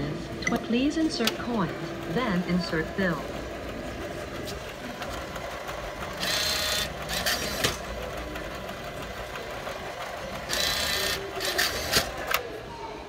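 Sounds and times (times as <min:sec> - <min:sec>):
steady background hum: 0:00.0 - 0:13.0
motorised whir: 0:00.3 - 0:12.7.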